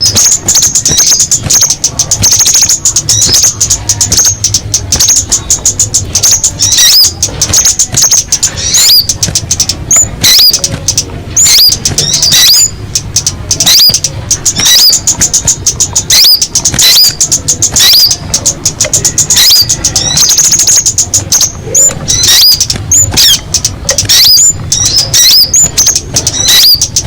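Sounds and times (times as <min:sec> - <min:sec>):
bird dry ticking notes: 0:00.0 - 0:27.0
bird hooked chirps: 0:00.0 - 0:27.0
steady low hum: 0:00.0 - 0:27.0.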